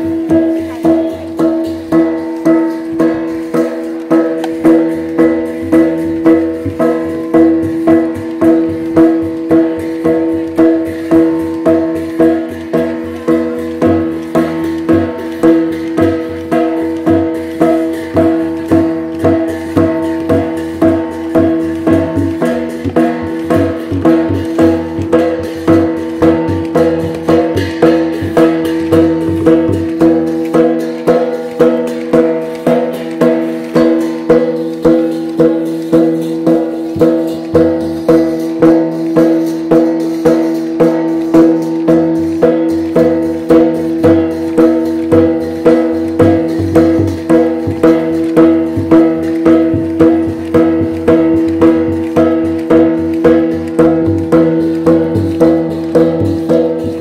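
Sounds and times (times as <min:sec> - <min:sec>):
deep drum: 0:00.0 - 0:57.0
percussion beat: 0:00.0 - 0:57.0.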